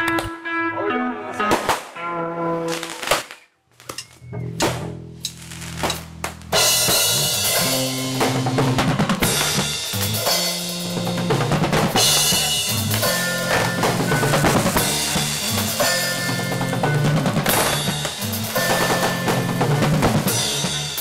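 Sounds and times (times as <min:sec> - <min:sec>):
rock band music: 0:00.0 - 0:03.1, 0:04.0 - 0:21.0.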